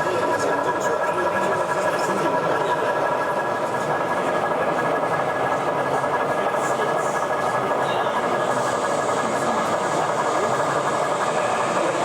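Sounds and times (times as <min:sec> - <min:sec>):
exhibition hall background noise: 0:00.0 - 0:12.0
model train running sound: 0:00.0 - 0:12.0.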